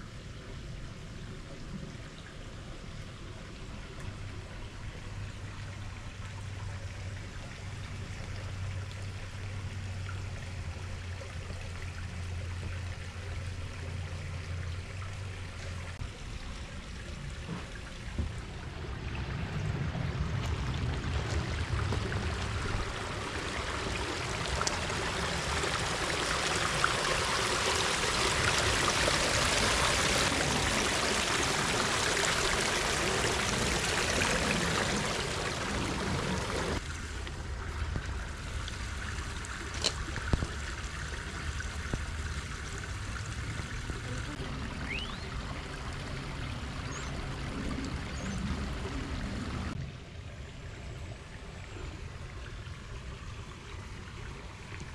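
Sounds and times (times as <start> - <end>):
low steady hum: 0.0 - 54.9
water trickling in stream: 0.0 - 54.9.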